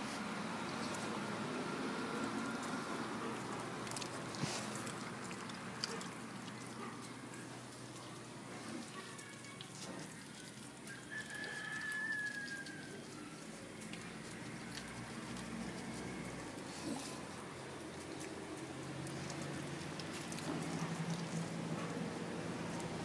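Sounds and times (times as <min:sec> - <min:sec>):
dog chewing wetly: 0:00.8 - 0:23.0.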